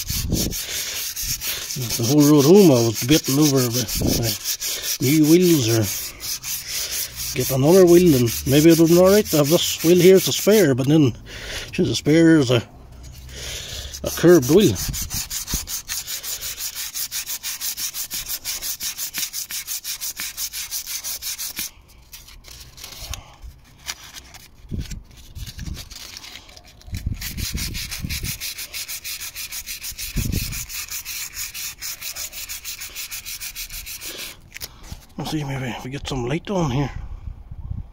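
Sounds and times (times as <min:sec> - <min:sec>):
sandpaper rubbing on metal wheel: 0:00.0 - 0:35.0.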